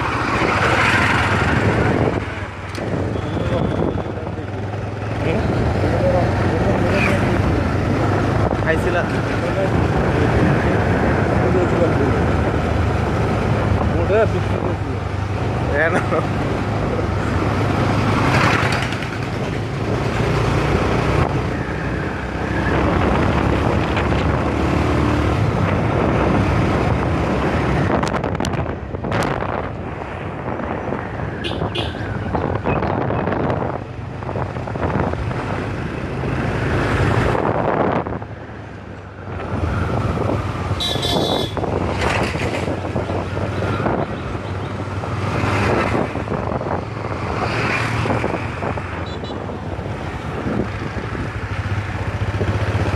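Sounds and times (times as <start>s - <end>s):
passing traffic: 0.0s - 52.9s
wind and road noise: 0.0s - 52.9s.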